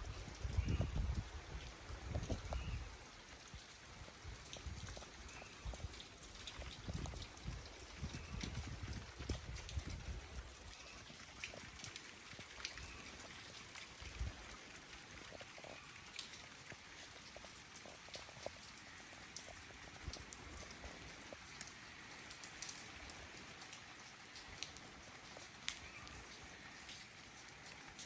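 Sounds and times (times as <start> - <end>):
light rain hiss: 0.0 - 28.0
raindrops ticking: 0.0 - 28.0.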